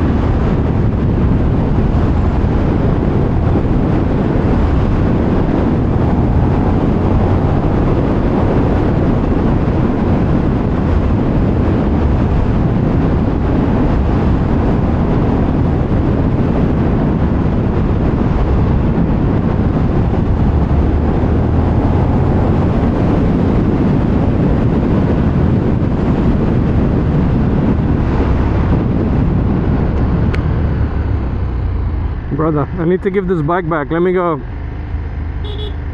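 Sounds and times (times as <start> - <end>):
motorcycle engine running: 0.0 - 35.9
wind buffeting microphone: 0.0 - 35.9.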